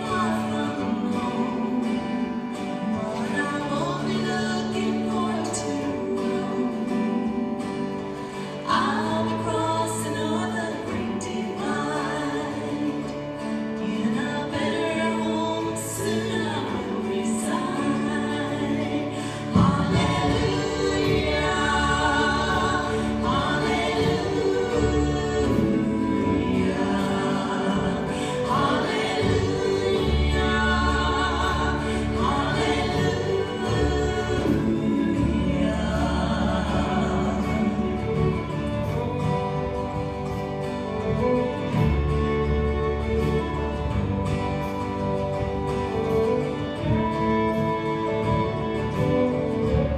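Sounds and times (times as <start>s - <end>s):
acoustic guitar: 0.0s - 49.9s
piano: 0.0s - 49.9s
string bass: 0.0s - 49.9s
violin: 0.0s - 49.9s
vocal trio singing in harmony: 0.0s - 49.9s.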